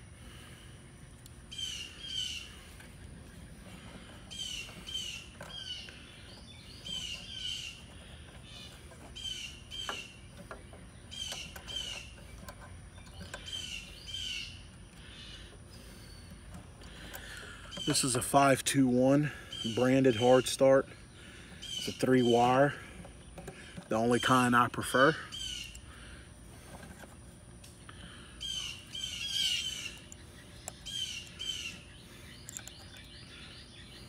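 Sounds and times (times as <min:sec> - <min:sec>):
songbird singing chirps: 0:00.2 - 0:34.0.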